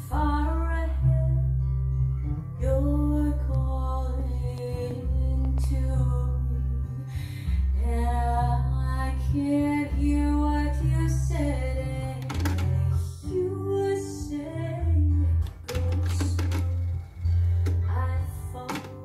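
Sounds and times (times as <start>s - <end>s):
female singer with bass line: 0.0s - 19.0s.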